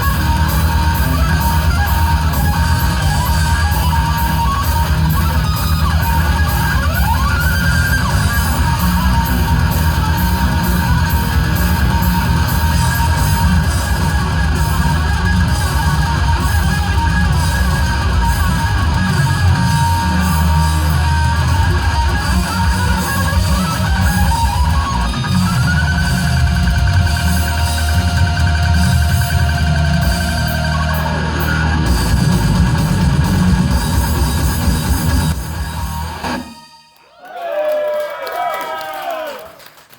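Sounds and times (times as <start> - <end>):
heavy metal music: 0.0 - 36.9
electric guitar lead: 0.0 - 37.0.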